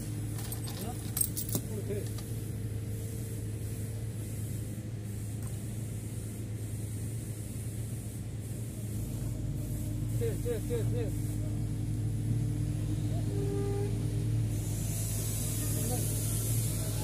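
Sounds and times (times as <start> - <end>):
diesel engine low hum: 0.0 - 17.0.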